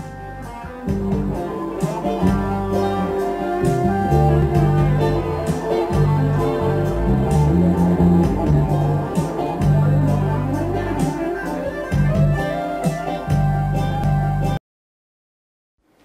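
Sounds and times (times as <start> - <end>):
bass line: 0.0 - 14.6
electric guitar lead melody: 0.0 - 14.6
steady beat: 0.0 - 14.6.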